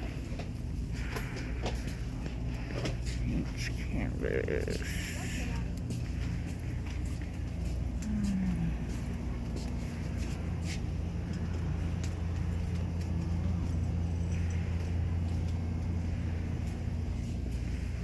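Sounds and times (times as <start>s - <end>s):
shop background hum: 0.0s - 18.0s.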